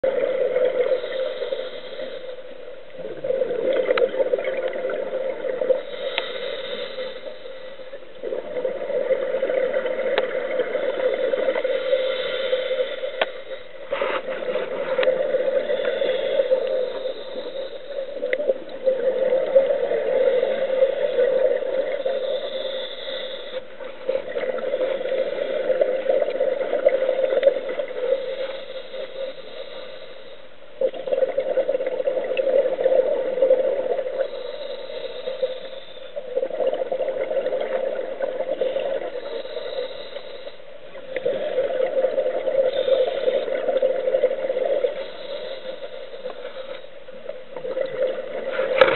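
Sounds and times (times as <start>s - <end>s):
underwater breathing bubbles: 0.0s - 48.9s.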